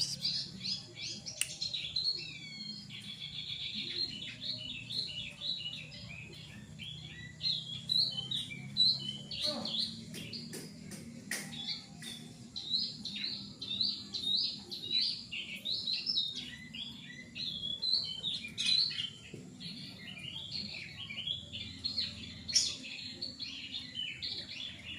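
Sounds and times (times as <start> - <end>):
songbird chirping and warbling: 0.0 - 24.9.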